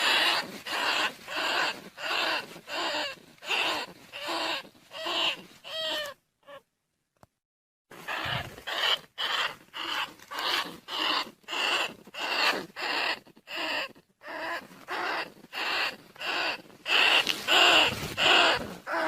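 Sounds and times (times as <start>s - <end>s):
rasping rat squeals: 0.0s - 6.6s, 7.9s - 19.0s.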